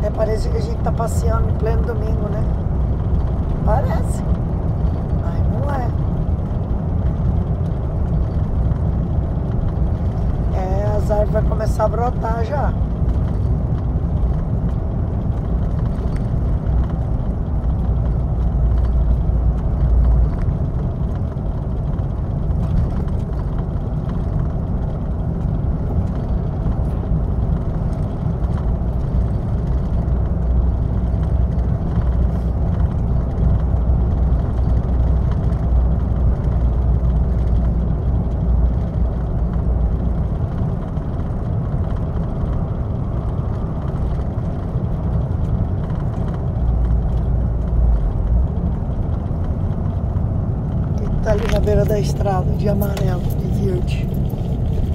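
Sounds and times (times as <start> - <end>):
truck engine drone: 0.0 - 54.9
tyre and road noise: 0.0 - 54.9.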